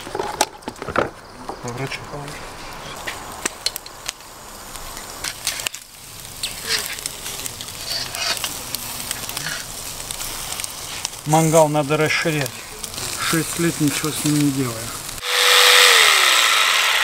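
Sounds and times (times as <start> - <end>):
coals crackling and popping: 0.0 - 17.0
meat sizzling over charcoal: 0.0 - 17.0.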